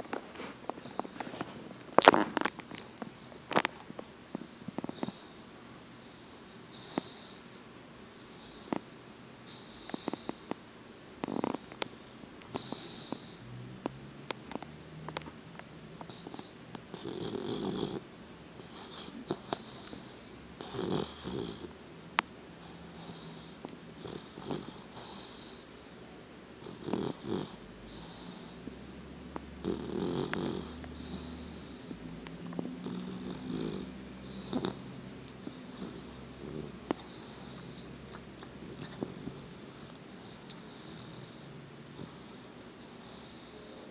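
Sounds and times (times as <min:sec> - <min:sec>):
puppy snoring and snuffling: 0:00.0 - 0:15.4, 0:16.0 - 0:21.8, 0:22.6 - 0:43.9.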